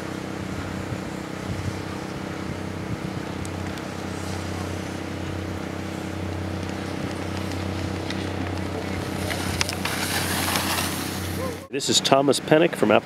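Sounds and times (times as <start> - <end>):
low mechanical hum: 0.0 - 13.0
outdoor hiss: 0.0 - 13.0.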